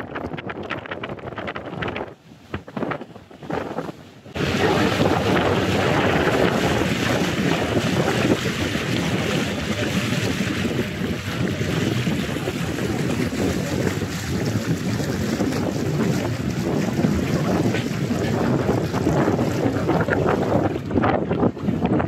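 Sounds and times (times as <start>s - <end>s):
wind buffeting microphone: 0.0s - 22.0s
water rushing: 1.8s - 22.0s.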